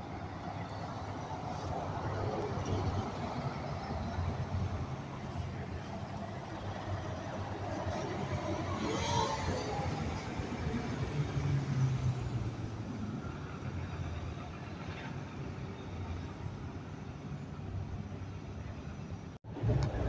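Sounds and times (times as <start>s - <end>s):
cars passing: 0.0s - 16.7s
bus driving off: 0.0s - 20.0s.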